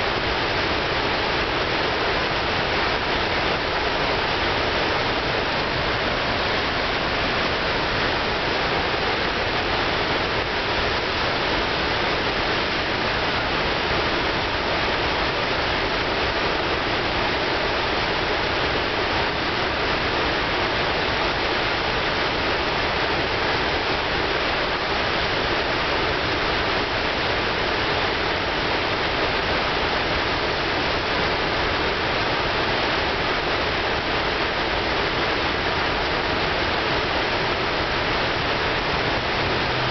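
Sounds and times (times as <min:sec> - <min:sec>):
loud rush of whitewater over falls: 0:00.0 - 0:39.9.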